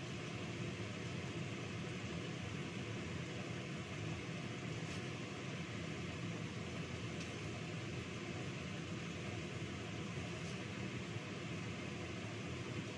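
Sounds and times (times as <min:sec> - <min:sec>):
machine hum with hiss: 0:00.0 - 0:12.9.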